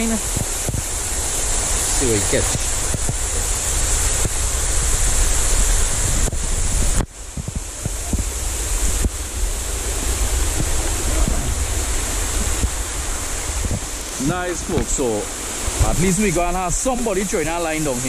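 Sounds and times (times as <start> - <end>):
water rushing over rocks: 0.0 - 18.0
wind buffeting microphone: 0.0 - 18.0.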